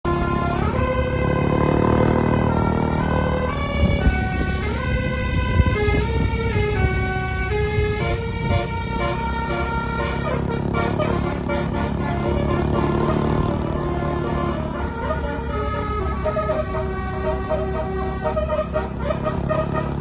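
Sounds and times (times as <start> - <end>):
bus engine running: 0.1 - 20.0
multi-tone bus horn melody: 0.1 - 20.0.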